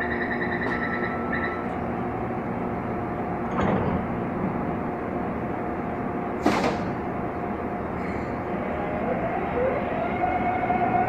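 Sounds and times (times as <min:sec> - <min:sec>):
train humming at platform: 0:00.0 - 0:11.0
train sliding doors closing: 0:00.6 - 0:11.0.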